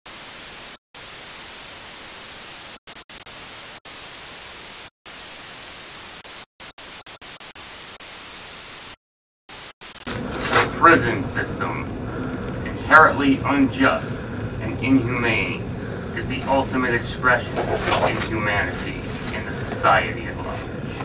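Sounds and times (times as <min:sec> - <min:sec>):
static hiss: 0:00.1 - 0:21.0.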